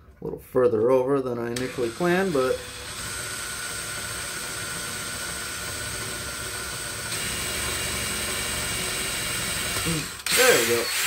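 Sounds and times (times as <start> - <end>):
cordless drill boring into wood: 1.6 - 11.0.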